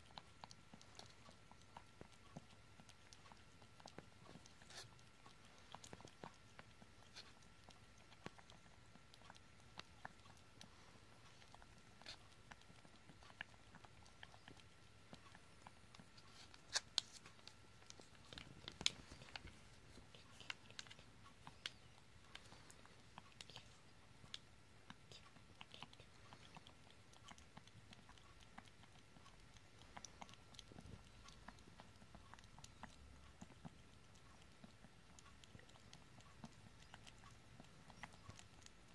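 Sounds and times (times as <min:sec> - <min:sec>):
kitten licking: 0:00.0 - 0:38.9.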